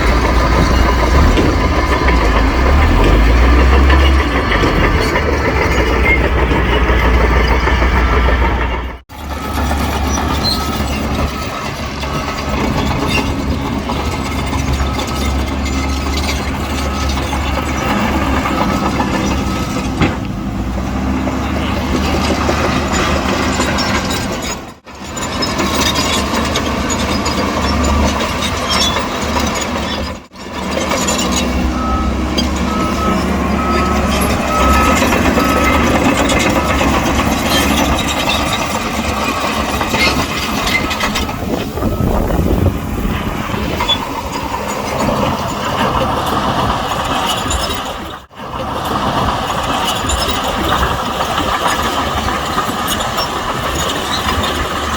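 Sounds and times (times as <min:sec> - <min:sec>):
truck reversing alarm beeping: 0:00.0 - 0:48.2
heavy diesel machinery running: 0:00.0 - 0:54.9.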